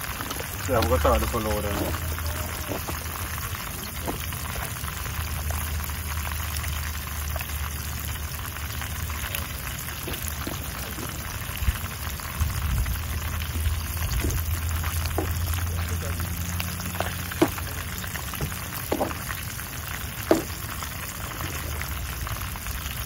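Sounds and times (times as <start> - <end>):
fish frying in oil: 0.0 - 23.0
oil popping: 0.0 - 23.0.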